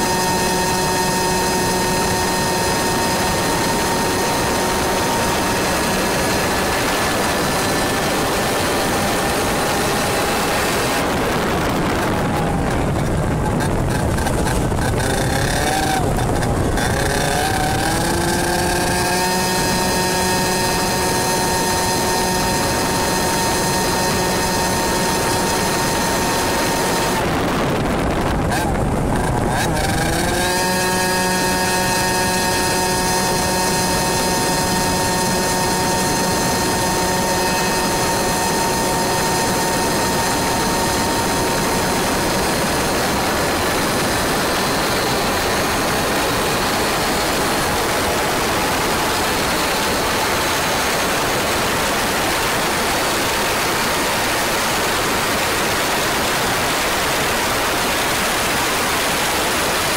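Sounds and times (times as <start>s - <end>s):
kart engine at high pitch: 0.0s - 59.9s
wind rushing over microphone: 0.0s - 59.9s.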